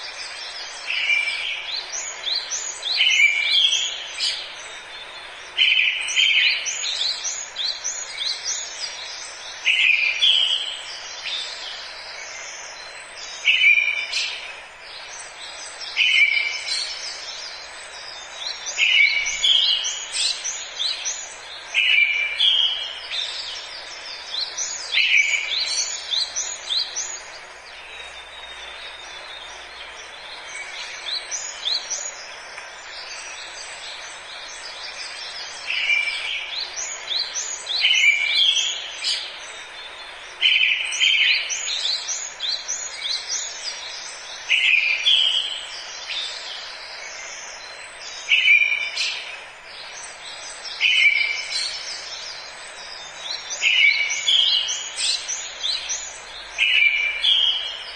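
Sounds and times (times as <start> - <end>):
birds chirping high: 0.0 - 57.9
steady background hiss: 0.0 - 57.9.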